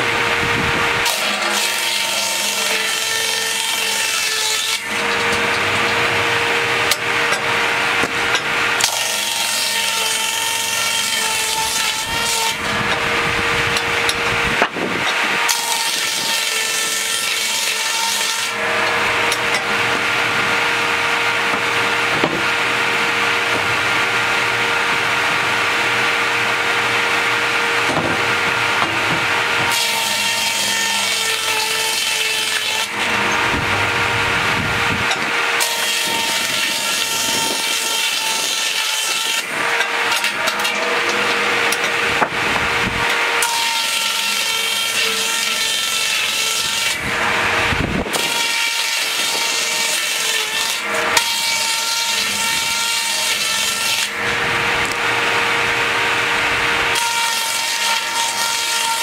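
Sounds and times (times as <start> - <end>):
circular saw blade whining: 0.0 - 59.0
saw cutting wood: 0.0 - 59.0.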